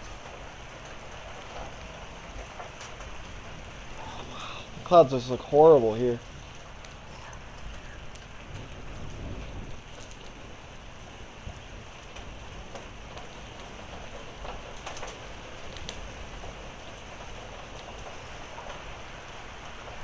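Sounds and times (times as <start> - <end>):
hail ticking: 0.0 - 20.0
heavy rain falling: 0.0 - 20.0.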